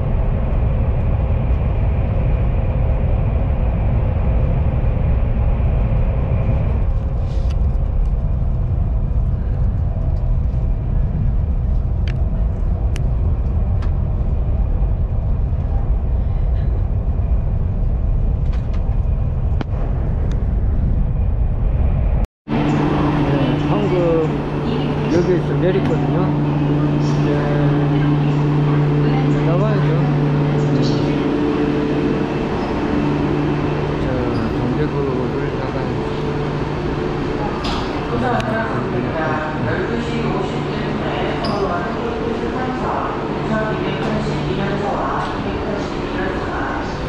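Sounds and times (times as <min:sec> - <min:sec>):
train cabin rumble: 0:00.0 - 0:47.0.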